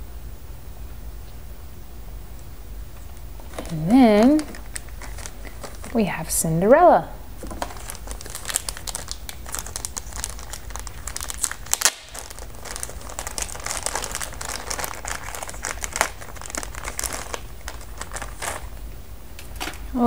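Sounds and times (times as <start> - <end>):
plastic packaging crinkling: 3.0 - 6.6, 7.4 - 19.9.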